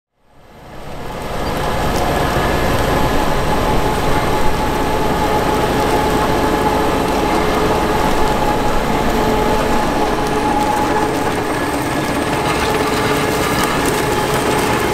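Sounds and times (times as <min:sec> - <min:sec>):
harvester machinery whine: 0:00.2 - 0:14.9
tractor diesel engine under load: 0:00.3 - 0:14.9.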